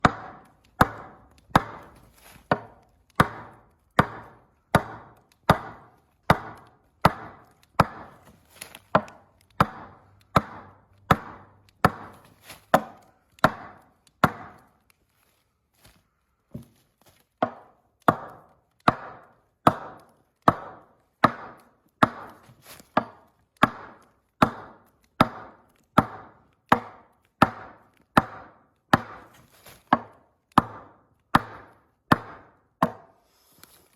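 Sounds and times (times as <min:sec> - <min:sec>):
sharp strikes on wood: 0:00.0 - 0:14.8, 0:17.4 - 0:33.2.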